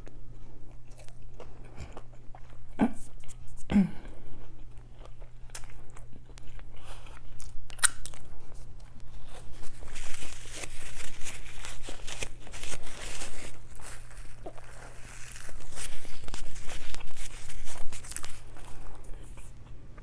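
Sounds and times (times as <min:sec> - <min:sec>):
crunchy chewing: 0:00.0 - 0:20.0
low steady hum: 0:00.0 - 0:20.0.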